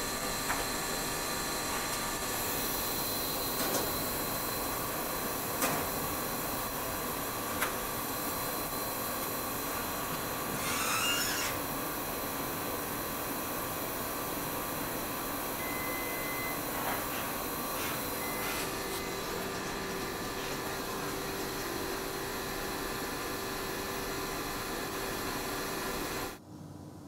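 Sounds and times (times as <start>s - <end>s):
printer mechanical hiss and hum: 0.0s - 26.4s.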